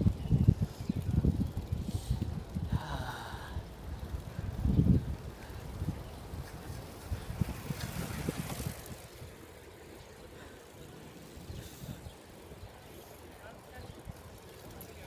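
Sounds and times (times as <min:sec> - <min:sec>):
wind rumbling on microphone: 0:00.0 - 0:14.9.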